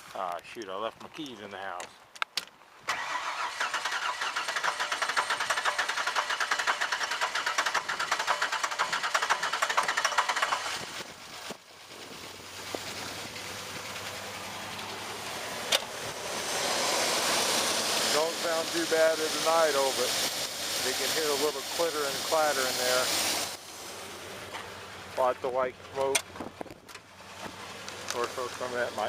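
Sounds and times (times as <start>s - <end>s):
truck engine cranking and running: 2.9s - 29.0s.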